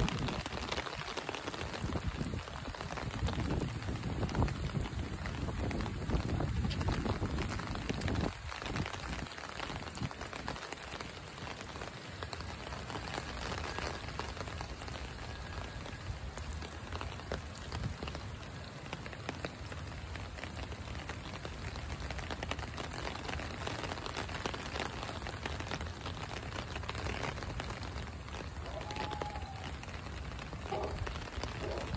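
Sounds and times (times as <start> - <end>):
rain on standing water: 0.0 - 31.9.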